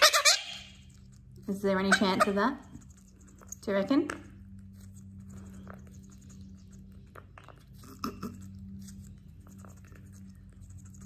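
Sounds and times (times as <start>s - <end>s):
parrot crunching pepper: 0.0s - 11.0s
steady low hum: 0.0s - 11.0s.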